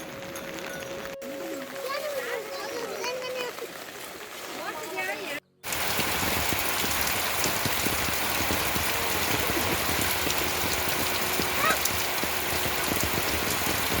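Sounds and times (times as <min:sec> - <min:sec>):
steady rain falling: 0:00.2 - 0:14.0.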